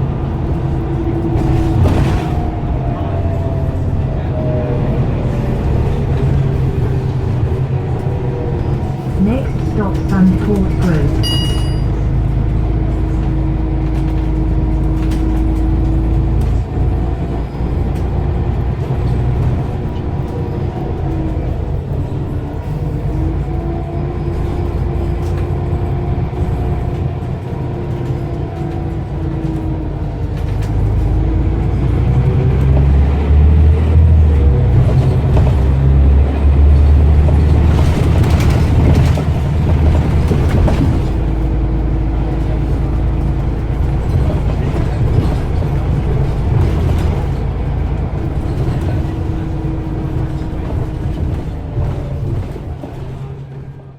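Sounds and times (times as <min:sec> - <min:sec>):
bus engine under load: 0:00.0 - 0:53.9.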